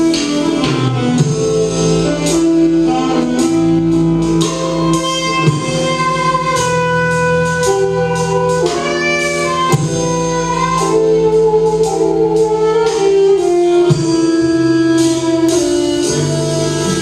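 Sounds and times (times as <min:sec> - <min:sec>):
rock band playing instrumental: 0:00.0 - 0:17.0.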